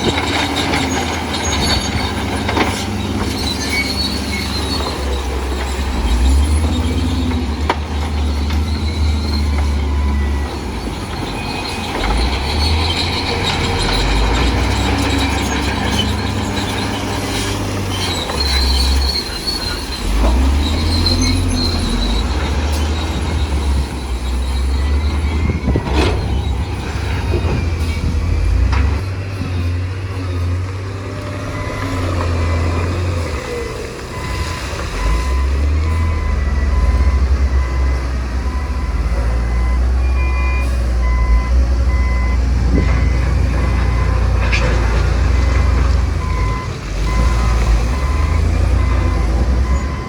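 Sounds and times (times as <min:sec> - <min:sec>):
diesel engine rumble: 0:00.0 - 0:50.0
steel tracks squealing: 0:00.0 - 0:50.0.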